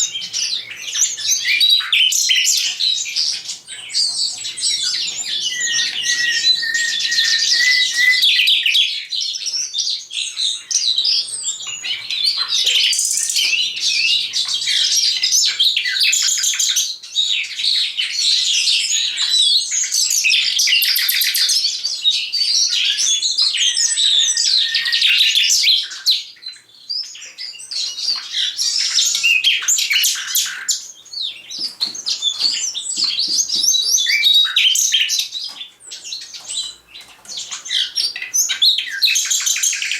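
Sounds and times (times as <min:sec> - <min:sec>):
nightingale singing: 0:00.0 - 0:39.9
skylark singing: 0:00.0 - 0:39.9.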